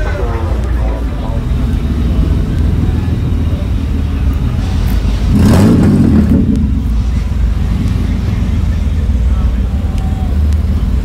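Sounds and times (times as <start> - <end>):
cars rolling past: 0.0 - 11.0
car engine revving: 0.5 - 11.0.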